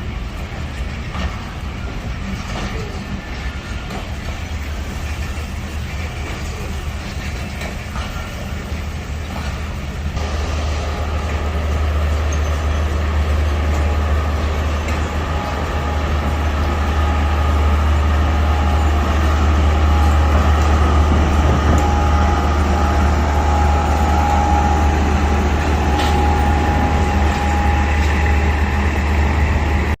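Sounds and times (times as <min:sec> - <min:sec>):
passenger train rumbling: 0:00.0 - 0:30.0.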